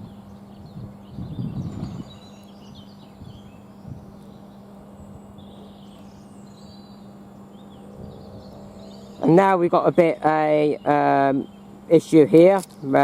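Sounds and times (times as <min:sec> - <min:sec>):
small birds chirping faintly: 0:00.0 - 0:13.0
steady low hum: 0:00.0 - 0:13.0.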